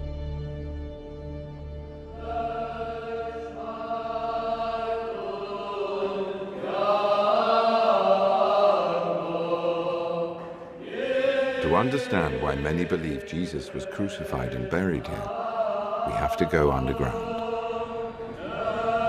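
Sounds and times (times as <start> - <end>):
choir chanting: 2.0 - 19.0.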